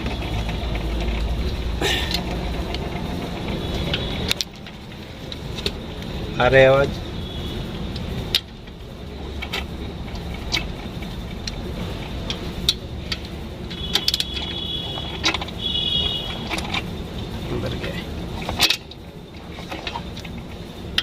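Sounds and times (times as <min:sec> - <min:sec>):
metallic clicks from clutch: 0:00.0 - 0:06.1, 0:07.9 - 0:21.0
low engine hum: 0:00.0 - 0:21.0.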